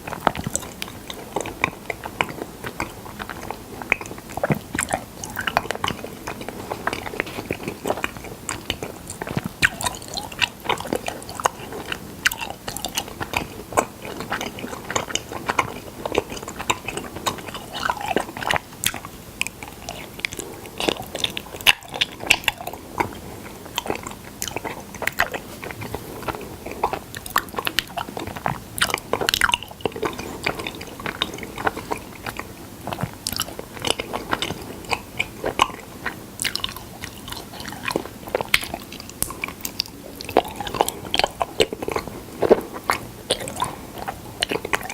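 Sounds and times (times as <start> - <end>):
person chewing: 0.0 - 44.9.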